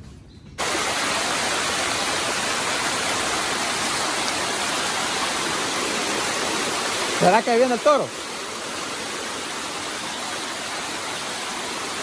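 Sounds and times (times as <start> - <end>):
heavy rain: 0.6 - 12.0
runoff streaming down trail: 0.6 - 12.0.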